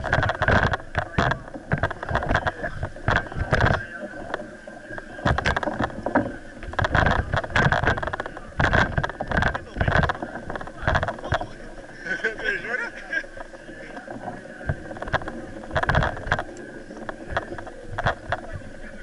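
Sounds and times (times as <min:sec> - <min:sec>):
crackles and thumps: 0:00.0 - 0:19.0
wind buffeting microphone: 0:00.0 - 0:19.0.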